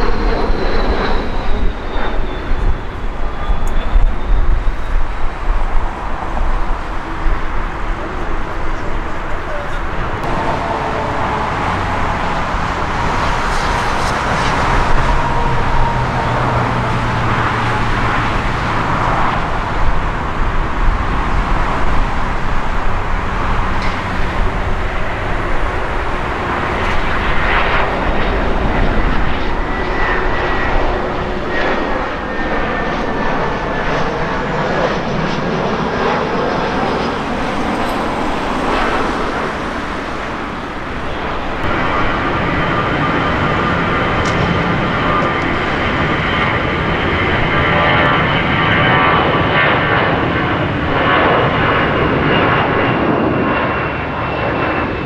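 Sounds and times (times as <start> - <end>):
high whine falling in pitch: 0.0 - 55.0
jet engines running: 0.0 - 55.0.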